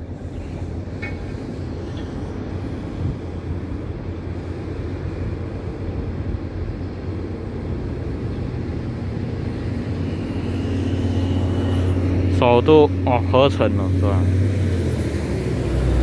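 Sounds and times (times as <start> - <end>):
low engine hum: 0.0 - 16.0
outdoor background noise: 0.0 - 16.0.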